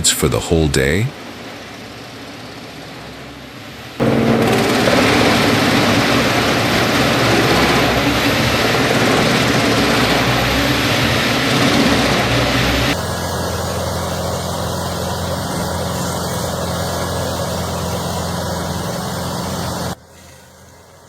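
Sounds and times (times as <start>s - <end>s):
wood chipper running: 3.2s - 21.0s.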